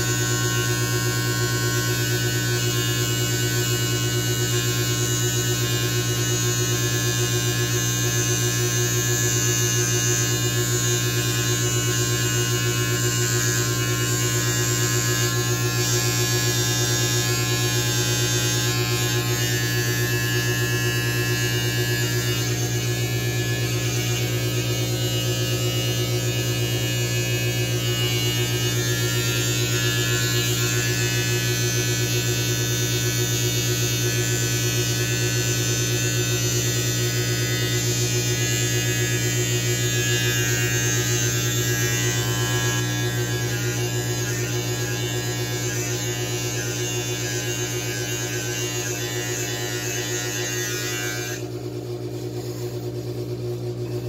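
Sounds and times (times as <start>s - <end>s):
electric beard trimmer buzzing: 0.0s - 54.0s.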